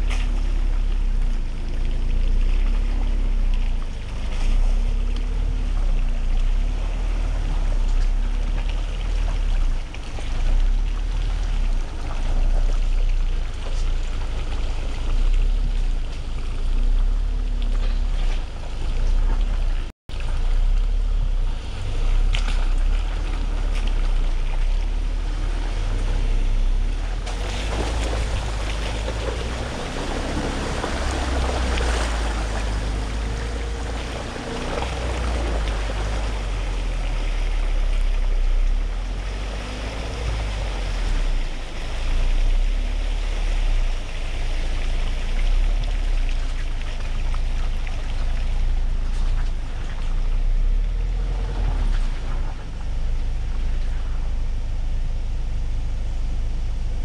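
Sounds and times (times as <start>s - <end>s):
engine and drivetrain rumble: 0.0s - 57.0s.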